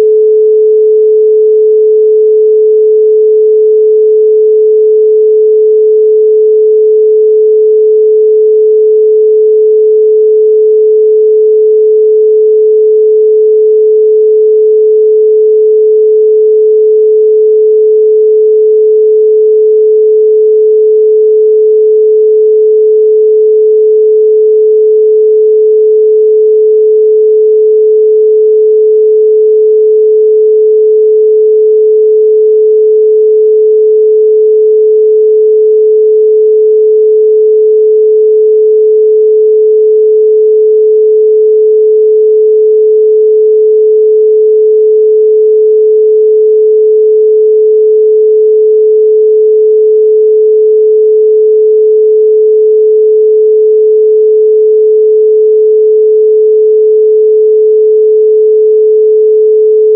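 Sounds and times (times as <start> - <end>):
pure sine tone: 0.0 - 59.9.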